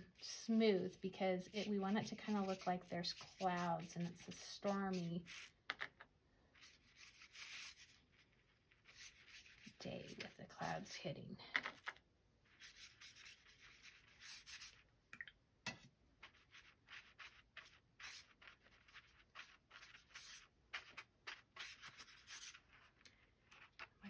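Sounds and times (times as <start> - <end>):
paintbrush scratching on paper: 0.1 - 5.6, 6.5 - 14.8, 16.2 - 24.0.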